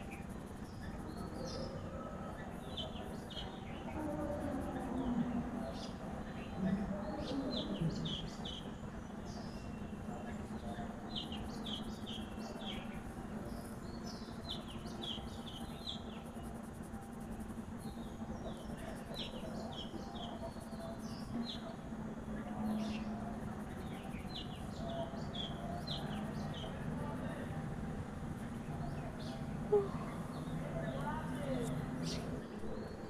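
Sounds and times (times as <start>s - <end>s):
small birds chirping: 0.0s - 33.0s
steady low hum: 0.0s - 33.0s.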